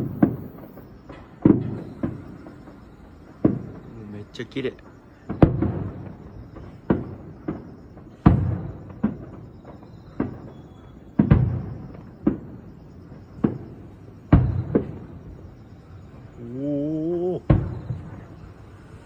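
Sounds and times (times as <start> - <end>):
firework shells bursting: 0.0 - 16.4, 17.4 - 19.0.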